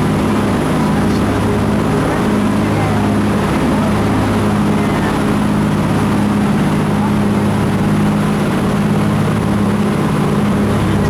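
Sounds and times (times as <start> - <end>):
boat engine running: 0.0 - 11.0
water rushing: 0.0 - 11.0.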